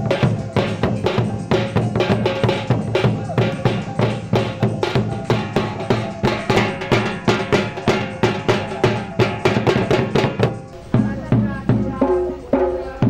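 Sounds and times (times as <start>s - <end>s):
barrel drum beating: 0.0s - 13.0s.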